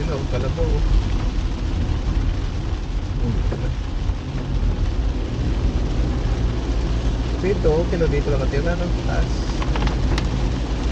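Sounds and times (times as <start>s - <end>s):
car engine and road rumble: 0.0s - 10.9s
rain and wet tyres hiss: 0.0s - 10.9s.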